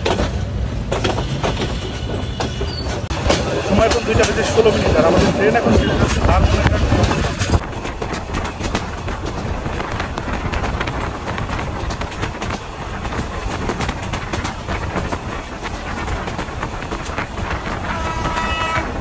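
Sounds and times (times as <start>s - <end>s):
train rumbling on rails: 0.0s - 19.0s
wheels clicking over track: 0.0s - 19.0s.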